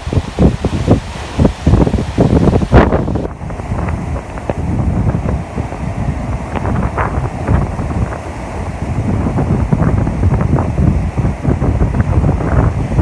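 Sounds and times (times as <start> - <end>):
big waves: 0.0 - 13.0
wind buffeting microphone: 0.0 - 13.0.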